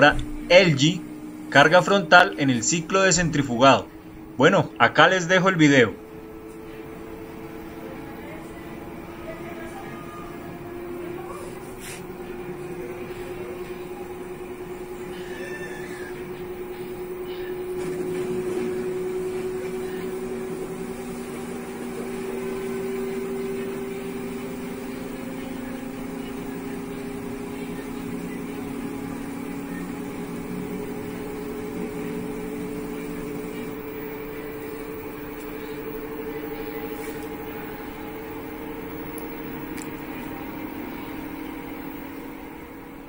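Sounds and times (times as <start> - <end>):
washing machine spin cycle: 0.0 - 43.0.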